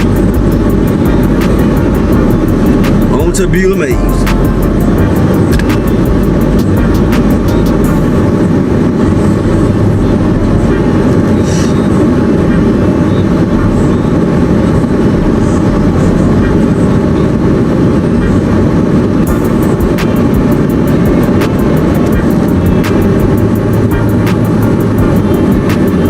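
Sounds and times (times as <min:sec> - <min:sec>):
car road and wind noise: 0:00.0 - 0:26.0.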